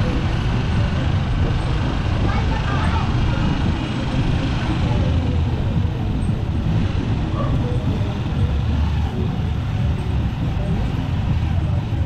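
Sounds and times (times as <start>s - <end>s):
motorcycle engine rumble: 0.0s - 12.0s
road noise: 0.0s - 12.0s.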